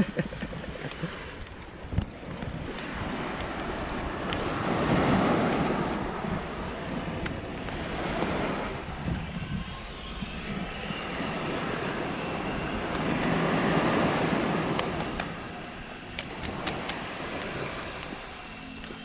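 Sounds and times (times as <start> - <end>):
surf washing on shore: 0.0 - 19.0
wind buffeting microphone: 0.0 - 19.0.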